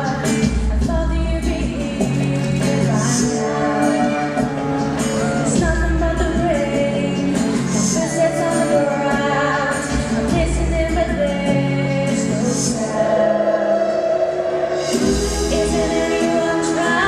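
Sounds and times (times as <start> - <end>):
backing track: 0.0 - 17.0
woman singing pop ballad: 0.0 - 17.0.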